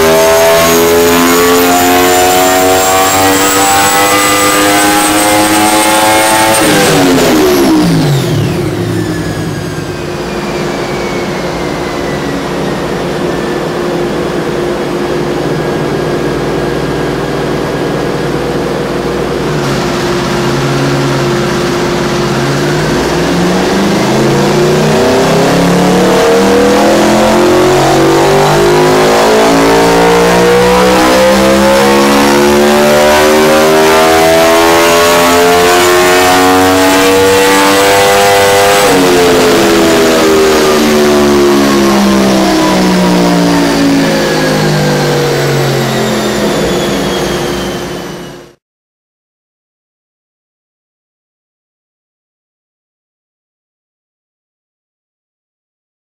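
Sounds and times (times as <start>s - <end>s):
motorcycle engine revving on dyno: 0.0s - 48.6s.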